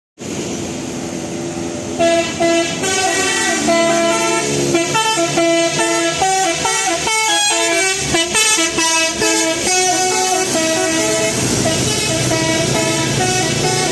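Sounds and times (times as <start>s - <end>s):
bus musical horn tune: 2.0s - 13.9s.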